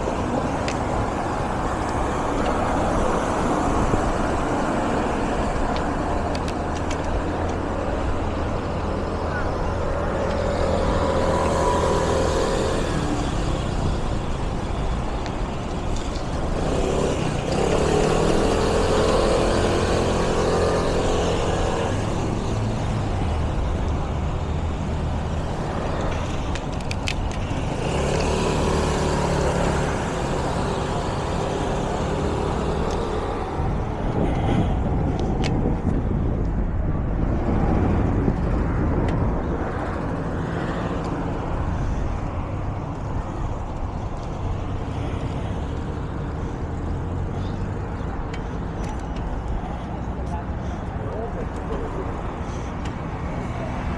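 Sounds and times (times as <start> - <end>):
low rumble of road noise: 0.0 - 53.9
vehicles passing close by: 0.0 - 53.9.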